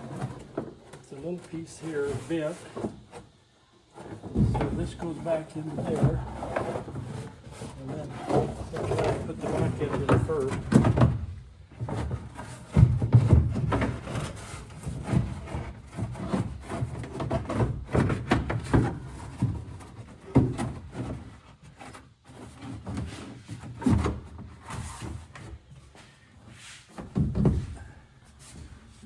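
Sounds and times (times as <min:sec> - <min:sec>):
cardboard scraping and thumping: 0:00.0 - 0:03.3, 0:03.9 - 0:29.0.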